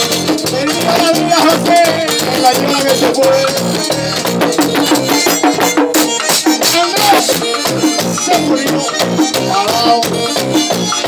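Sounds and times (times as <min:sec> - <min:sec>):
button accordion melody: 0:00.0 - 0:11.0
electric bass: 0:00.0 - 0:11.0
percussion rhythm: 0:00.0 - 0:11.0
tambora drum: 0:00.0 - 0:11.0.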